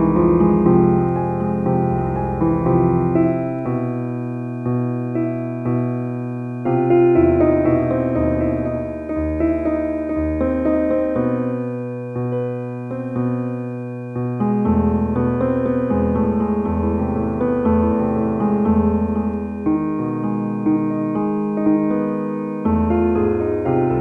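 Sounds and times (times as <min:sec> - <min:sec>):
relaxing piano music: 0:00.0 - 0:24.0.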